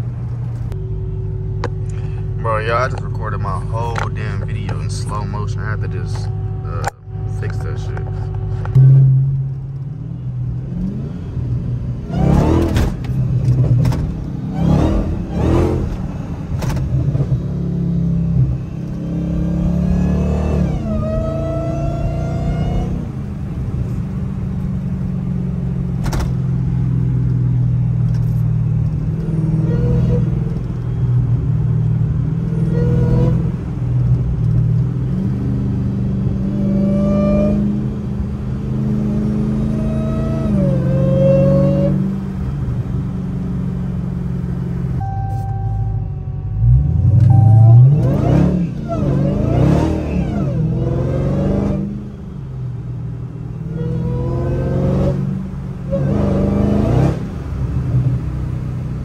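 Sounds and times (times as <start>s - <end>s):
car engine from inside the cabin: 0.0s - 59.0s.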